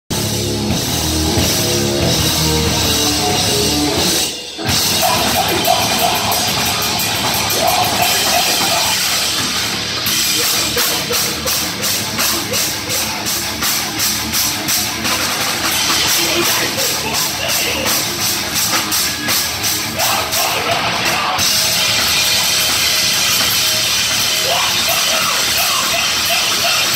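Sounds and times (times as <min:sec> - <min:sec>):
distorted electric guitar: 0:00.1 - 0:26.9
drum kit steady beat: 0:00.1 - 0:26.9
heavy metal band playing: 0:00.1 - 0:26.9.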